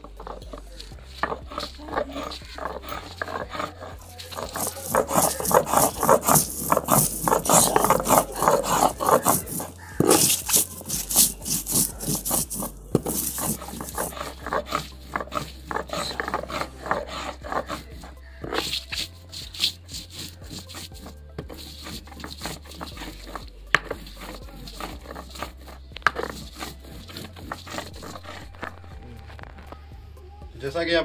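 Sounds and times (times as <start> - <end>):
stone grinding on stone: 0.0 - 29.8.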